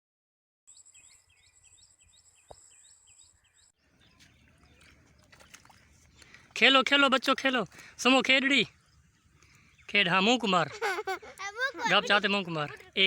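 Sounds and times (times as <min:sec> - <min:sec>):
bird chirping: 0:00.7 - 0:06.6, 0:07.7 - 0:13.0.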